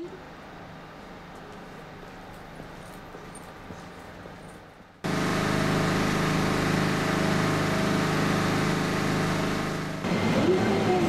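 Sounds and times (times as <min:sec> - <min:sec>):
air compressors droning: 0:00.0 - 0:11.0.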